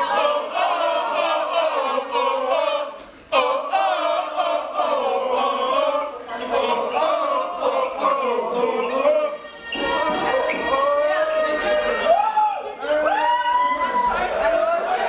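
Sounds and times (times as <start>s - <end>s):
crowd singing and chanting: 0.0s - 12.9s, 14.1s - 15.0s.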